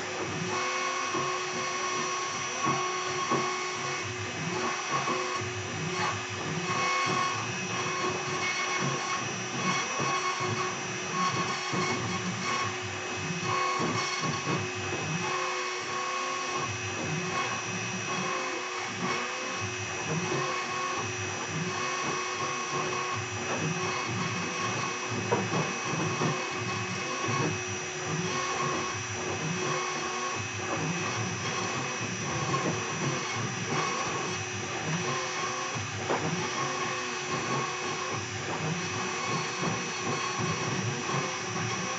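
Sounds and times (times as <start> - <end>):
router spindle high whine: 0.0 - 41.9.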